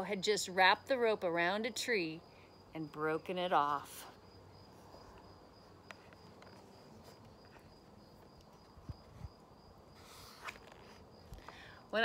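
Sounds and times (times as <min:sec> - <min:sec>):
cricket trilling: 0:02.0 - 0:11.9.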